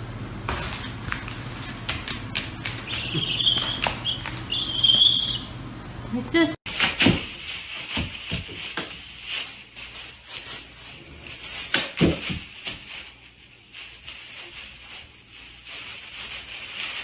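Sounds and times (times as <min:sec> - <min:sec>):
plastic bag crinkling: 0:00.4 - 0:05.4, 0:06.7 - 0:17.0.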